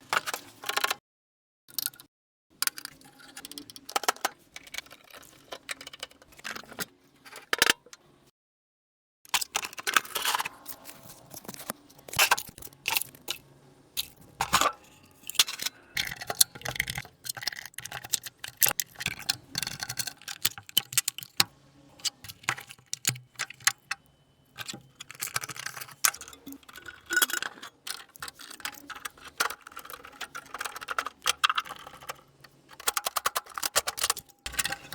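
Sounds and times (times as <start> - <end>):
small parts and tools rattling: 1.7 - 8.0, 9.3 - 34.9.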